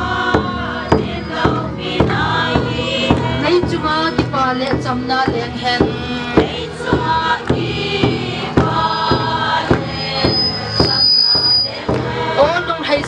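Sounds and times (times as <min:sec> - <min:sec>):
group singing dance song: 0:00.0 - 0:13.0.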